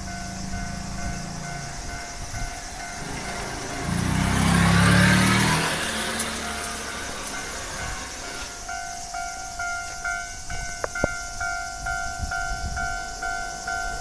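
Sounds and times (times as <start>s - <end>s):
electric train rumble: 0.0s - 14.0s
level crossing warning bell: 0.0s - 14.0s.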